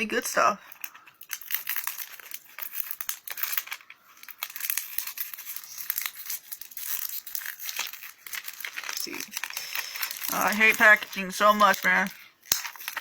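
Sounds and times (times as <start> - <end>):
plastic packaging crinkling: 0.5 - 13.0.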